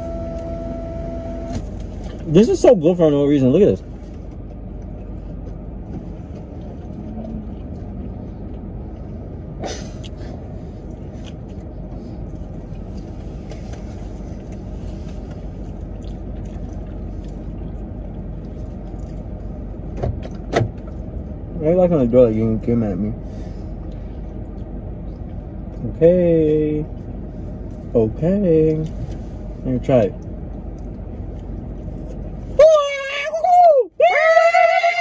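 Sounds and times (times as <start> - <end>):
low rumble in car cabin: 0.0 - 35.0.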